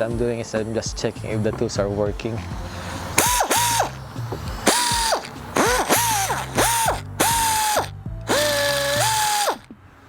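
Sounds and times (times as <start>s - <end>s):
pneumatic ratchet whine: 1.3s - 9.8s.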